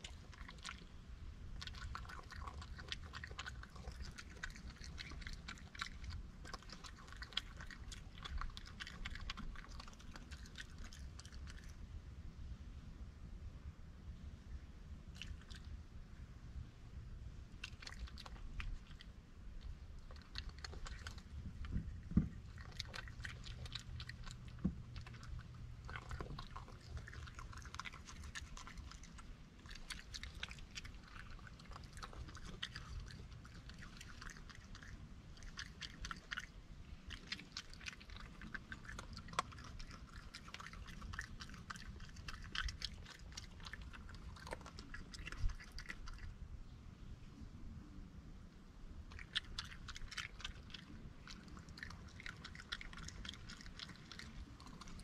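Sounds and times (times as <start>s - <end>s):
raccoon crunching peanuts: 0.0s - 11.8s, 15.1s - 15.8s, 17.5s - 46.4s, 49.0s - 55.0s.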